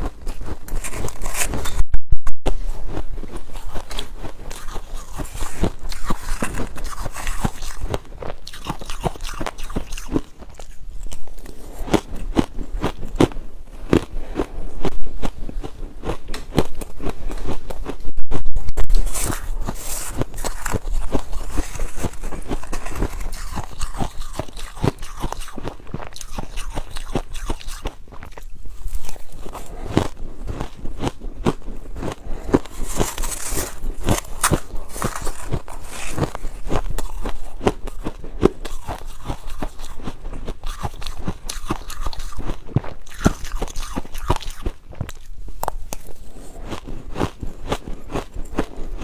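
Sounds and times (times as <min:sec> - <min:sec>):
ice being chewed: 0:00.0 - 0:01.8, 0:02.8 - 0:18.0, 0:18.9 - 0:49.0.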